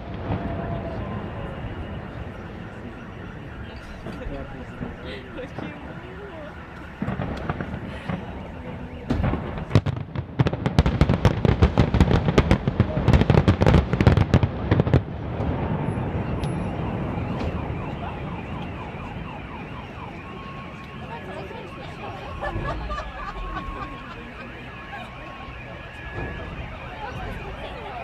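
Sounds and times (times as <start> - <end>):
car alarm wavering: 0.0 - 28.0
fireworks bangs and crackling: 0.0 - 28.0.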